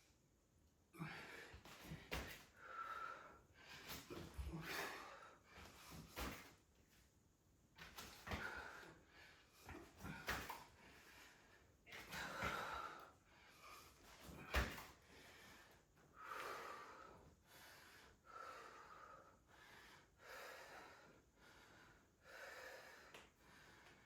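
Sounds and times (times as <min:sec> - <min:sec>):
woman breathing heavily: 0:00.9 - 0:06.6, 0:08.2 - 0:24.0.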